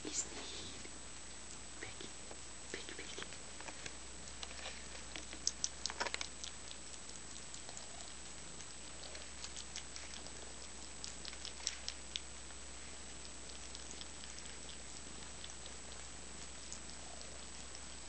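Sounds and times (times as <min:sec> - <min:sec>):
kitten chewing food: 0:00.0 - 0:18.0.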